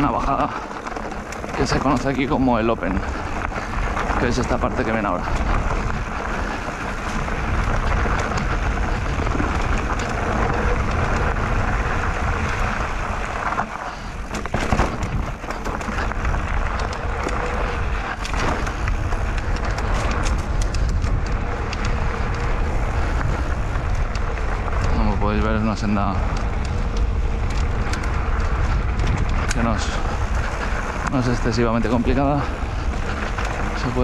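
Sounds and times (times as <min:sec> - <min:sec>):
bike rattling over bumps: 0:00.0 - 0:34.0
tyres rolling over dirt: 0:00.0 - 0:34.0
wind rushing over microphone: 0:00.0 - 0:34.0.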